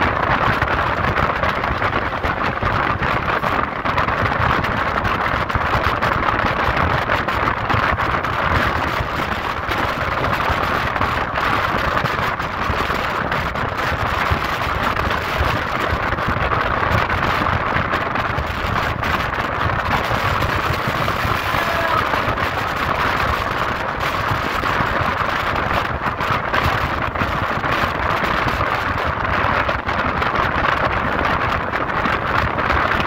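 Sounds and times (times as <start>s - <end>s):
wind buffeting microphone: 0.0s - 33.0s
train wheels rushing on rails: 1.3s - 29.6s.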